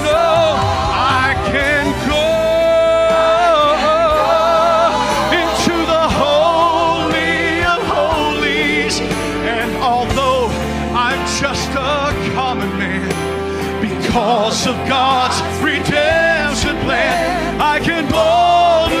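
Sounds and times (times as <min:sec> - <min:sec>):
gospel vocal quartet singing: 0:00.0 - 0:19.0
instrumental accompaniment: 0:00.0 - 0:19.0.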